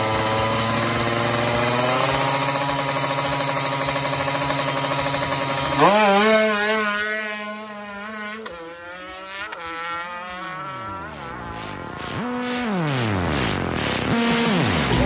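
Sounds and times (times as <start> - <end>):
engine revving: 0.0 - 15.0
motorcycle engine accelerating: 0.0 - 15.0.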